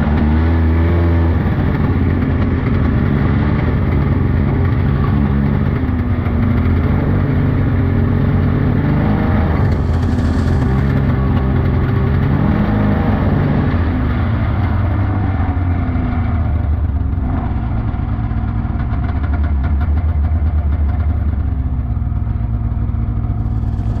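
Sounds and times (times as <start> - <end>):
snowmobile engine running: 0.0 - 20.2, 22.3 - 24.0.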